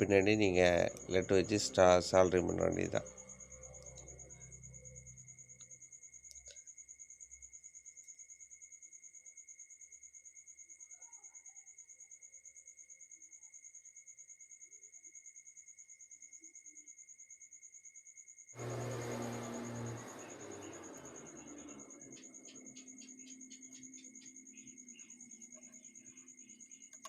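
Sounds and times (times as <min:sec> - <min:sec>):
cricket trilling: 0:00.0 - 0:27.0.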